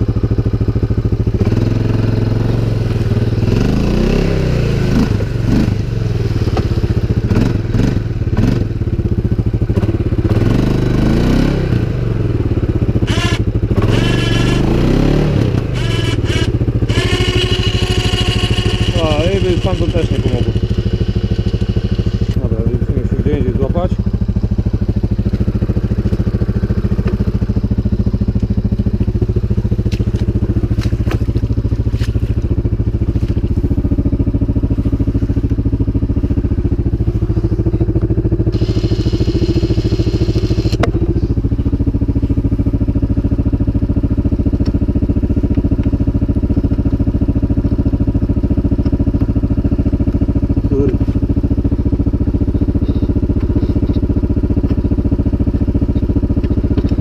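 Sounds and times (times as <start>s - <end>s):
atv engine idling: 0.0s - 57.0s.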